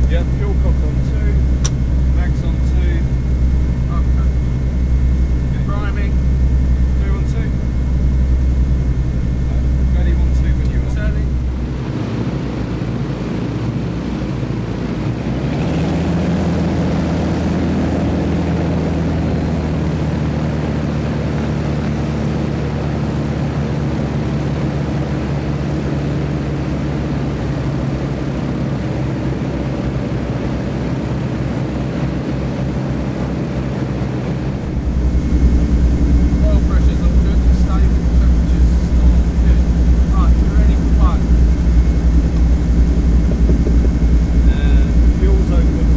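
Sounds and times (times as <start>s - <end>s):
propeller aircraft engines running: 0.0s - 45.9s.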